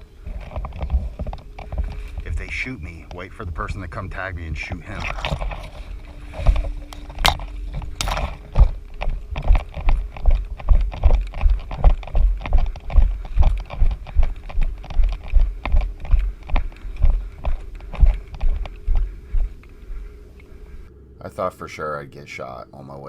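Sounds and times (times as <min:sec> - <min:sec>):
running footsteps through weeds: 0:00.0 - 0:20.9.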